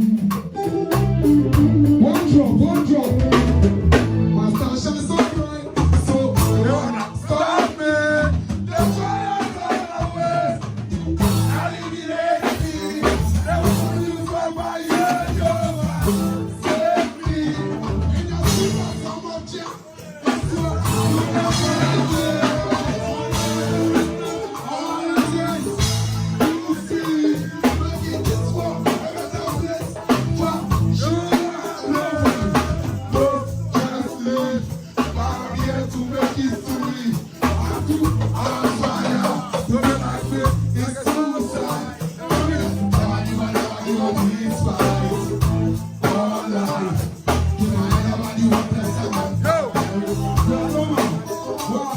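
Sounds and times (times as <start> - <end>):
live band playing dancehall: 0.0 - 51.9.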